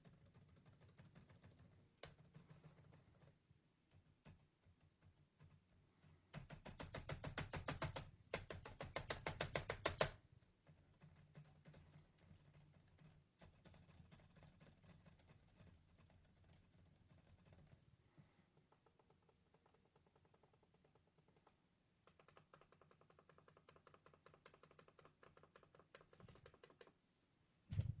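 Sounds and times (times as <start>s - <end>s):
laptop keyboard typing: 0.0s - 17.8s, 18.8s - 27.0s.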